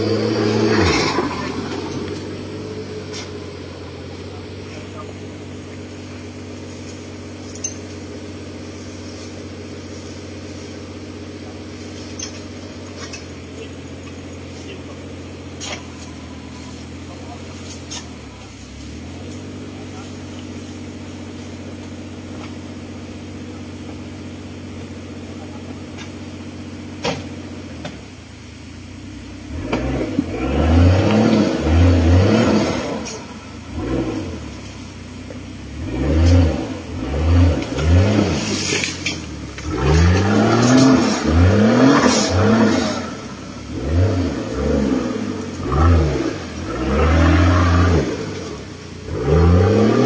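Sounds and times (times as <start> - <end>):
off-road engine revving: 0.0 - 50.0.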